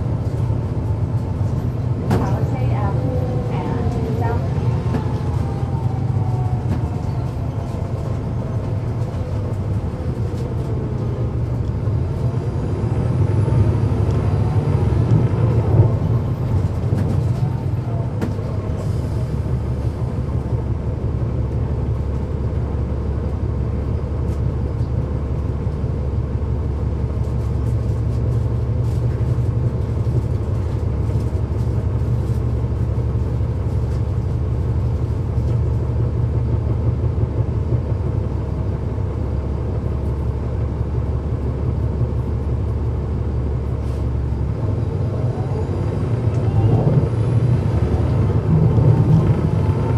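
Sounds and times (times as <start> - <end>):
bus diesel engine drone: 0.0 - 49.9.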